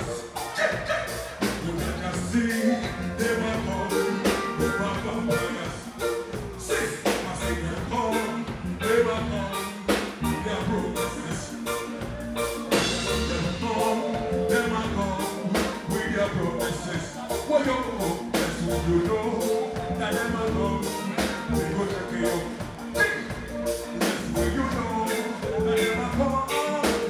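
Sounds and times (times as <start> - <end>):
man singing into microphone: 0.0 - 12.0, 12.7 - 27.0
live band playing: 0.0 - 27.0
steady drum beat: 0.0 - 27.0.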